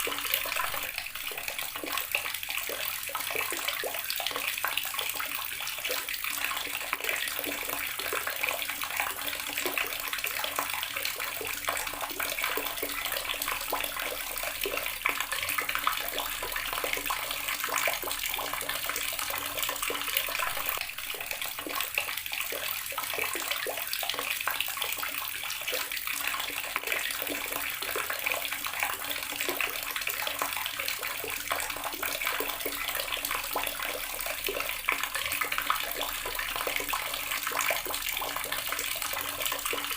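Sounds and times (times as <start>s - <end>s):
water tap running and splashing: 0.0s - 39.9s.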